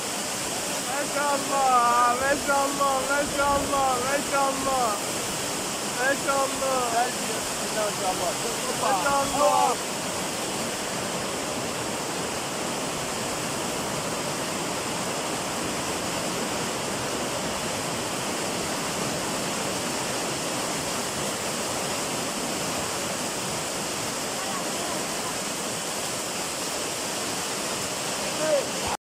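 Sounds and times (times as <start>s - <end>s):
torrential rain pouring: 0.0s - 29.0s.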